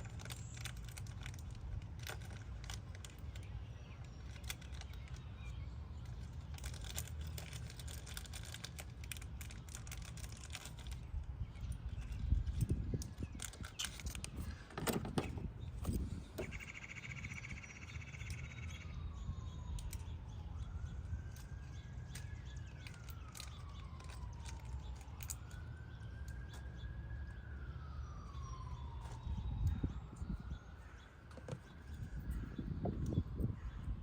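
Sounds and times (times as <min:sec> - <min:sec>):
faint siren wailing: 0:00.0 - 0:34.0.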